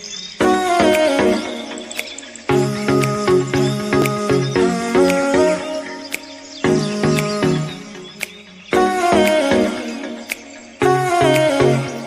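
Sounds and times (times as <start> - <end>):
instrumental background music: 0.4 - 12.0.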